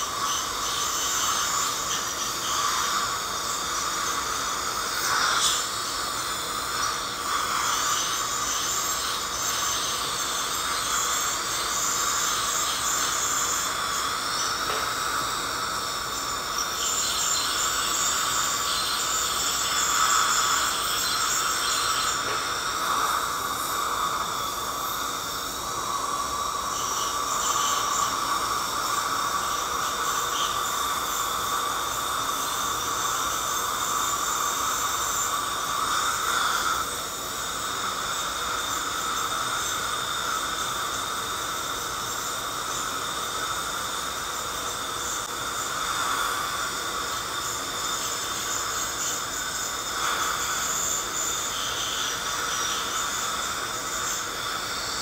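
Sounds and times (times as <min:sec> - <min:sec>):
dental scaler whining: 0:00.0 - 0:44.2, 0:44.8 - 0:55.0
constant hiss: 0:00.0 - 0:55.0.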